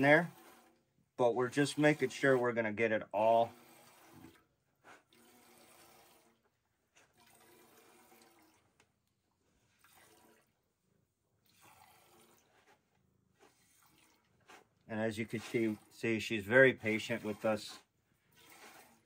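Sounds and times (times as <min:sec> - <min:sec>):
milk squirting into metal pail: 0:00.0 - 0:19.0.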